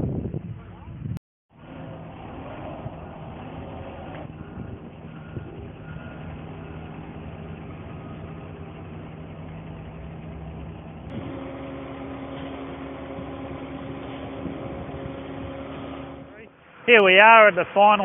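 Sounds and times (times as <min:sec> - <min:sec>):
heavy diesel engines running: 0:01.5 - 0:18.0.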